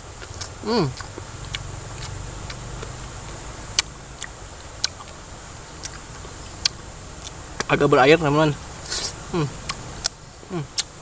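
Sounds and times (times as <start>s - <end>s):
person chewing crunchy food: 0.0s - 5.2s, 5.8s - 7.7s, 8.8s - 10.9s
low hum: 0.0s - 10.7s.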